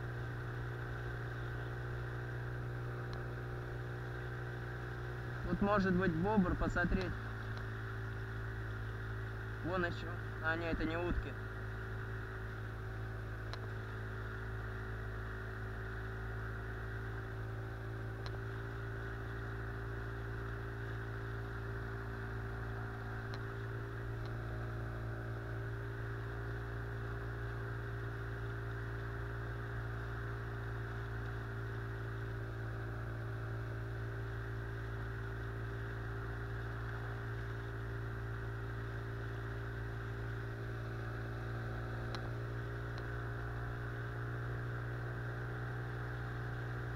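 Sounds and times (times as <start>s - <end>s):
outboard motor drone: 0.0s - 46.9s.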